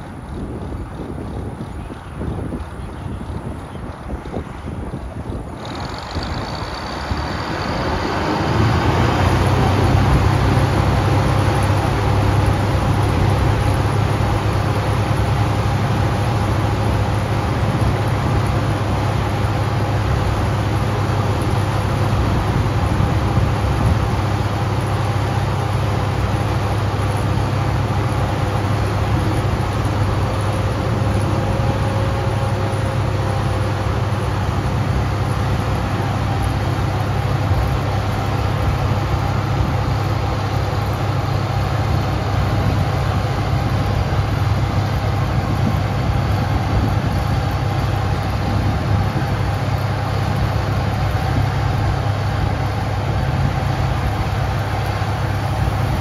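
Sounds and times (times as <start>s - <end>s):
diesel engine starting and running: 0.0s - 56.0s.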